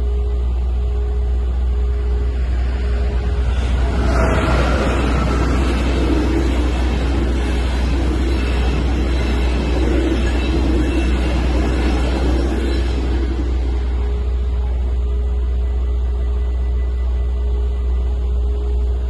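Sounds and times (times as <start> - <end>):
low rumble: 0.0 - 19.0
train coaches rolling on rails: 0.0 - 19.0.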